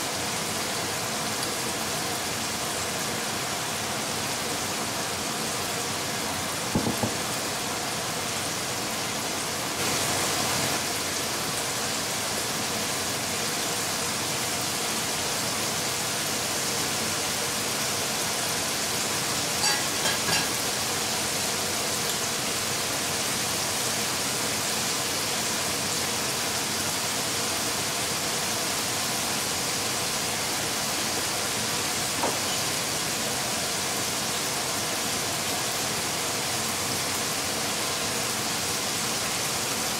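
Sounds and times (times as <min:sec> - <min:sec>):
oil sizzling deep-frying: 0:00.0 - 0:39.9.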